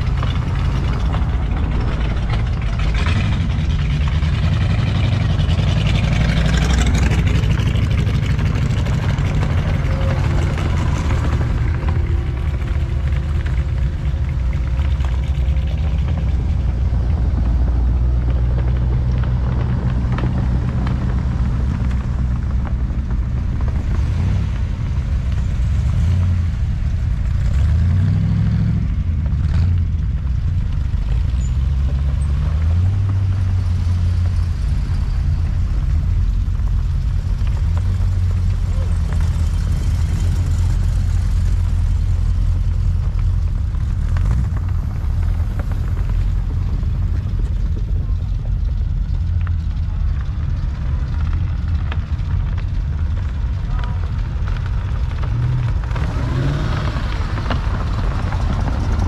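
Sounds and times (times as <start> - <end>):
car engines rumbling past: 0.0 - 59.0.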